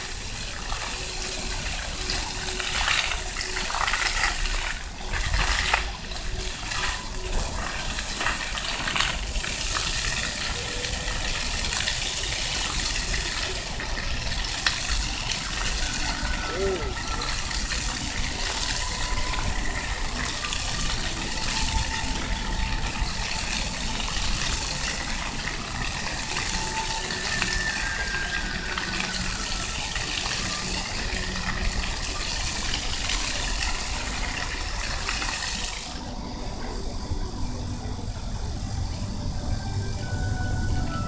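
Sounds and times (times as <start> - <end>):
fountain jets splashing on stone: 0.0 - 41.0.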